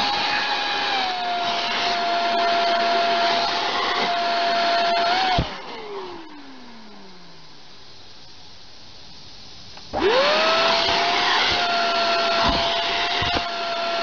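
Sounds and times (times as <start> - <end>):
leaf blower whine: 0.0 - 7.5, 9.8 - 14.0.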